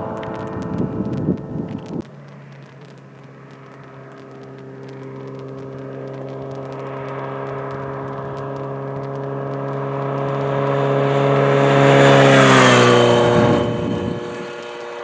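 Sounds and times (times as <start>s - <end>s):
motorcycle passing by: 0.0s - 15.0s.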